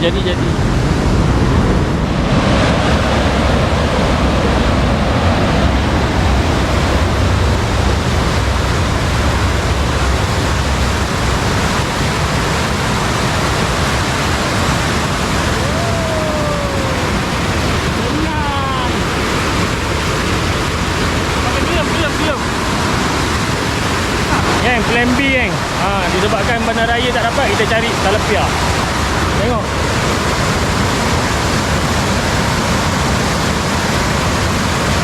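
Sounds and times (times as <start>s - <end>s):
river current rushing: 0.0s - 35.0s.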